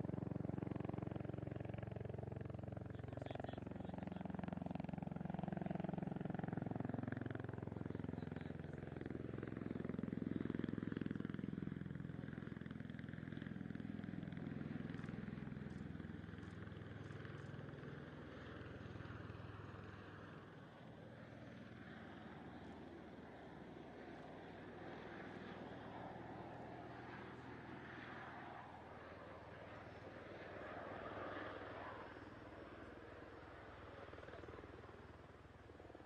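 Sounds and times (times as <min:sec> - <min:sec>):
aircraft engine and rotor drone: 0:00.0 - 0:36.0.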